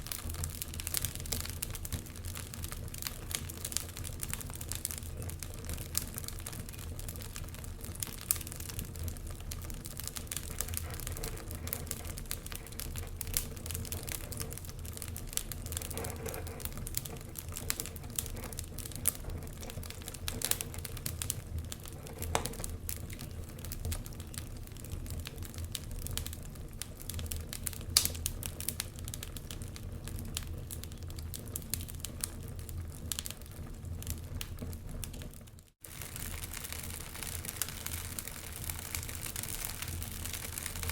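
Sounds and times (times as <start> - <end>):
fire low rumble: 0.0 - 40.9
wood fire crackling and popping: 0.0 - 40.9.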